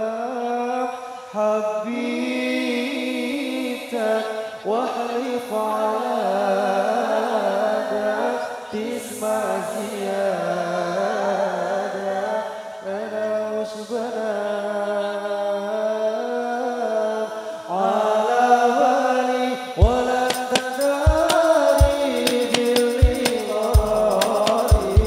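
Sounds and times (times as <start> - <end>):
men singing devotional song: 0.0 - 25.0.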